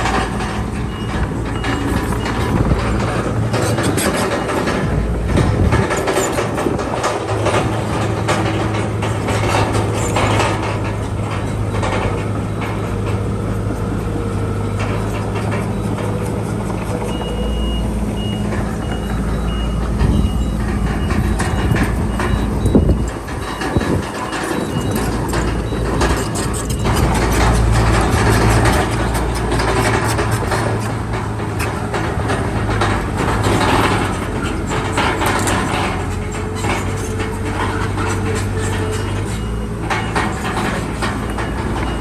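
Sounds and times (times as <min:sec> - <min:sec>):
reversing alarm beeping: 0:00.0 - 0:13.5, 0:14.6 - 0:30.8, 0:32.8 - 0:42.0
bulldozer diesel engine: 0:00.0 - 0:42.0
steel tracks clanking: 0:00.0 - 0:42.0.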